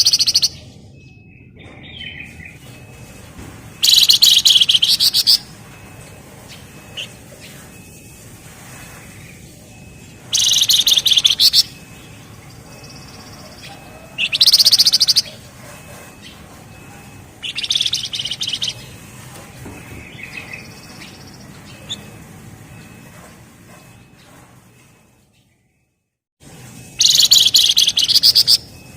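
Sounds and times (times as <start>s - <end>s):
bird singing rattling trills: 0.0s - 25.9s, 26.8s - 28.9s.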